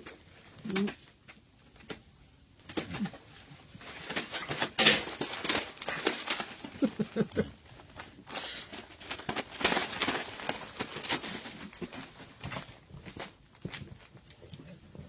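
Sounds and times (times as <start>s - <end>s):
dogs scuffling: 2.6s - 14.8s.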